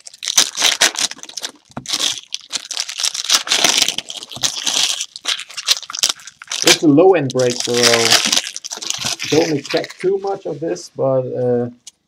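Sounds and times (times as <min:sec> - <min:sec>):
foil wrappers crinkling: 0:00.0 - 0:10.4.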